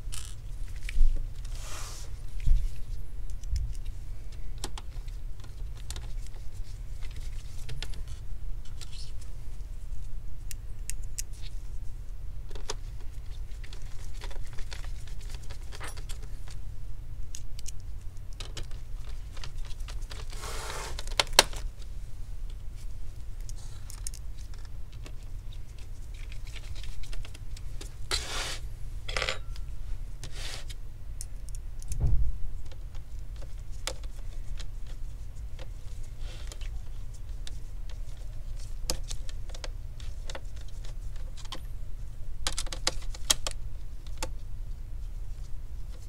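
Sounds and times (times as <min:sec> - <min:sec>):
rustling of handling: 0:00.0 - 0:46.0
steady low hum: 0:00.0 - 0:46.0.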